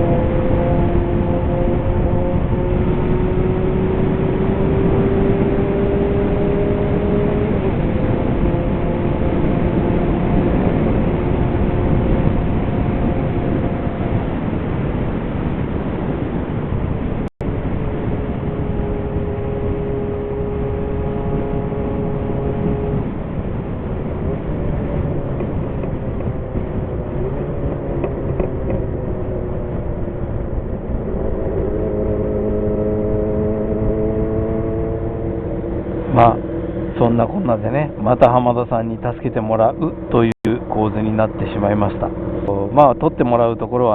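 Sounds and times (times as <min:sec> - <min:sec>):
motorcycle engine running: 0:00.0 - 0:14.6, 0:17.4 - 0:43.9
wind on microphone: 0:00.0 - 0:43.9.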